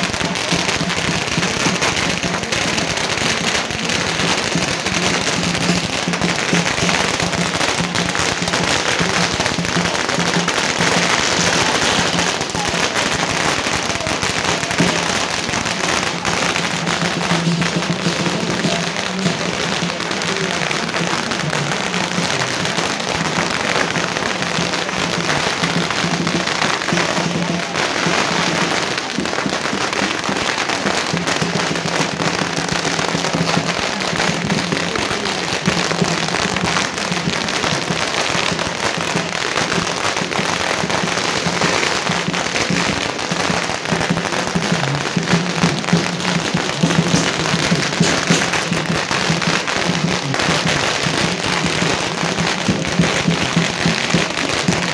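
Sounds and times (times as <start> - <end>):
firecrackers popping: 0.0 - 54.9.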